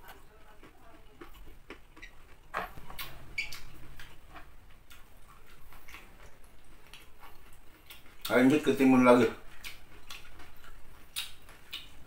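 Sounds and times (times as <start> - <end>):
crunchy chewing of vegetables: 0.0 - 12.0.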